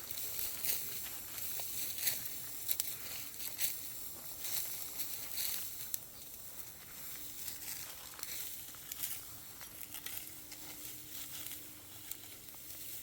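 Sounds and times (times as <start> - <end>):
soft crackling and hissing: 0.0 - 13.0.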